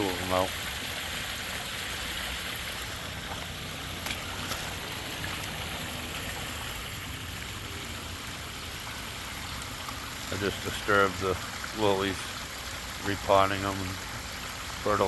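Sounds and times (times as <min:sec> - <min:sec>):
waterfall splashing and trickling: 0:00.0 - 0:15.0.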